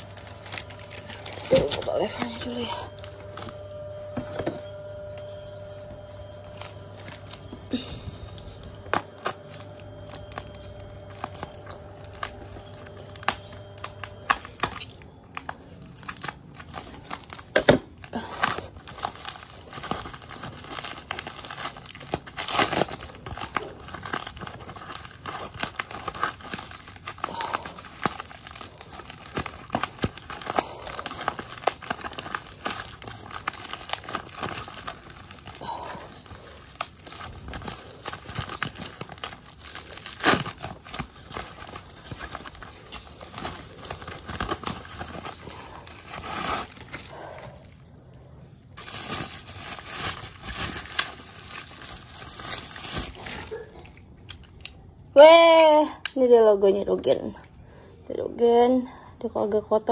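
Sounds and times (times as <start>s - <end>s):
packing wrap crinkling: 0.0s - 54.9s.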